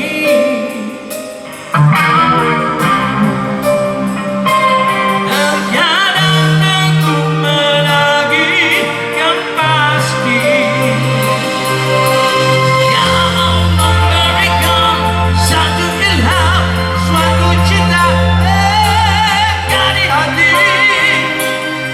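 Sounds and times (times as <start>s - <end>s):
electric lead guitar: 0.0s - 21.9s
rock band playing: 0.0s - 21.9s.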